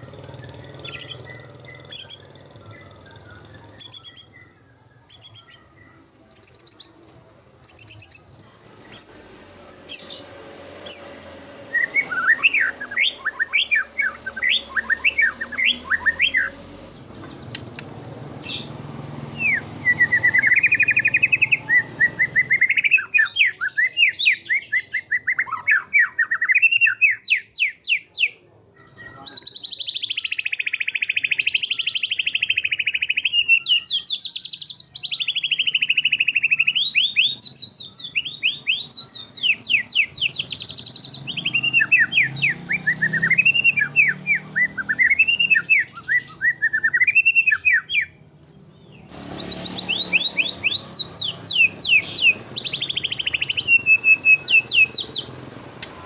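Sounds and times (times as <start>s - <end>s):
bird singing whistled trills: 0.0s - 7.0s, 7.6s - 8.3s, 11.7s - 17.6s, 19.4s - 48.2s, 48.8s - 56.0s.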